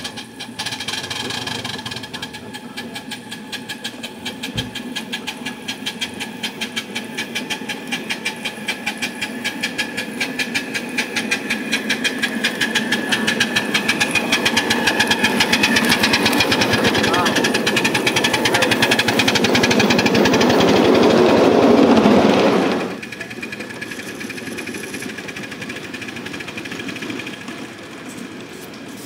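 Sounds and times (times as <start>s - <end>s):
steam locomotive chuffing: 0.0s - 29.0s.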